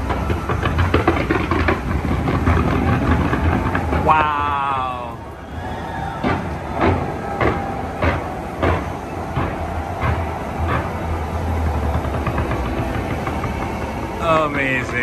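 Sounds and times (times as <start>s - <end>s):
fireworks banging: 0.0s - 15.0s
low rumble from fireworks display: 0.0s - 15.0s.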